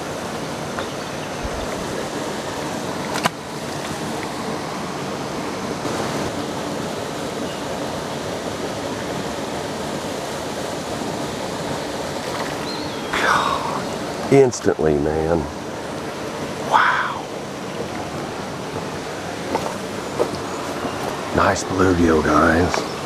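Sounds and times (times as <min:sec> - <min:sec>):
water rushing over a spillway: 0:00.0 - 0:23.0.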